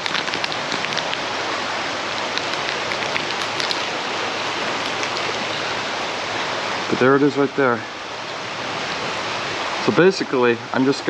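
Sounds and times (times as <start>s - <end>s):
river water running over rocks: 0.0s - 11.0s.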